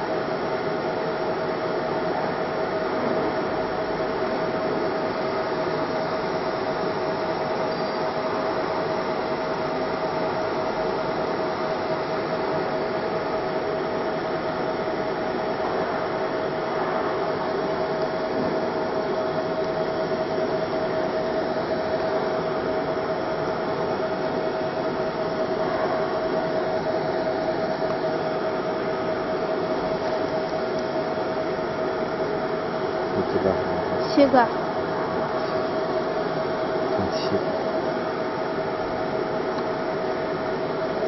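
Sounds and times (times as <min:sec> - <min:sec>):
machinery drone: 0:00.0 - 0:41.0
mid-pitched whine: 0:00.0 - 0:41.0.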